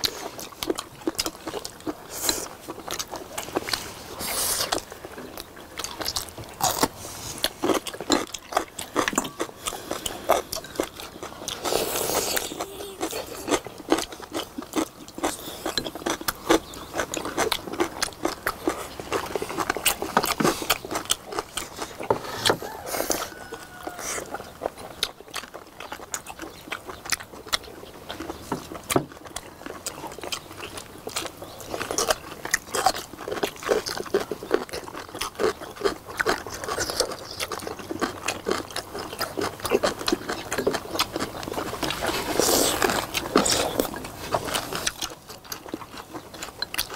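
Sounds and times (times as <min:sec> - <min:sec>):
people chewing with mouth smacks: 0:00.0 - 0:46.9.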